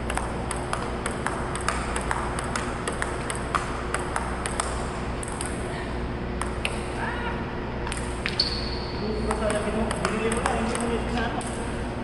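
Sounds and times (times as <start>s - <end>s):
table tennis ball clicking: 0.0s - 5.6s, 6.4s - 6.9s, 7.8s - 11.6s.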